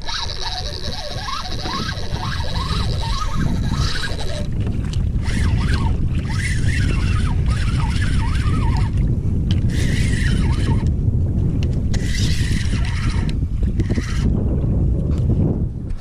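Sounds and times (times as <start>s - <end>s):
water splashing along kayak hull: 0.0s - 16.0s
wind rumbling on microphone: 0.0s - 16.0s.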